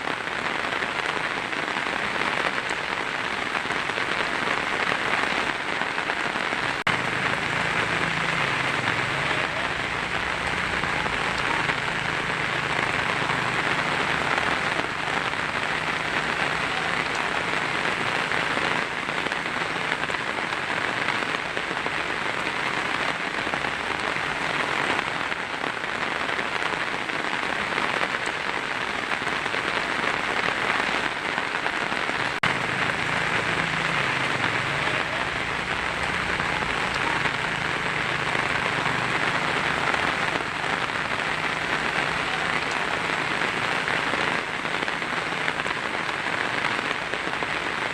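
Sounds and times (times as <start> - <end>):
heavy rain on a tin roof: 0.0 - 47.9.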